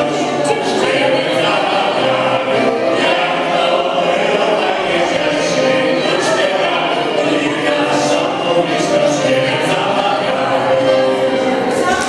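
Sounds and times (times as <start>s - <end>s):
accordion: 0.0s - 12.0s
group of people singing: 0.0s - 12.0s
violin: 0.0s - 12.0s.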